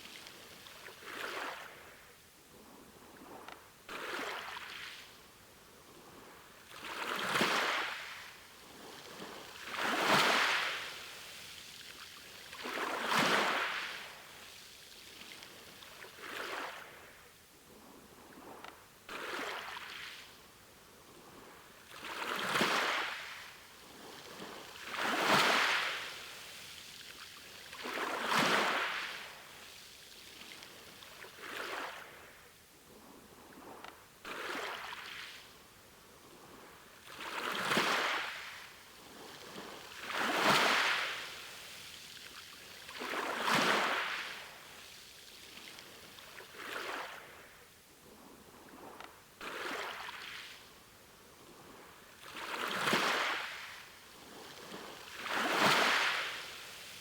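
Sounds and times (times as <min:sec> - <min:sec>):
small waves washing onto shore: 0:00.0 - 0:57.0.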